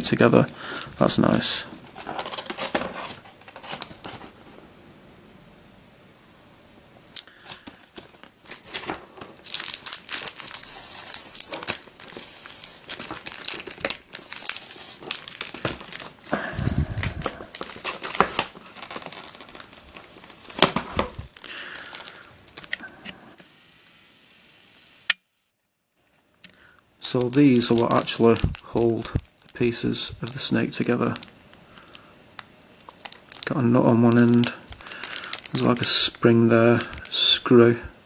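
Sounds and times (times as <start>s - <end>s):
packaging crinkling and tearing: 0.0s - 4.4s, 7.2s - 22.8s, 27.0s - 37.7s.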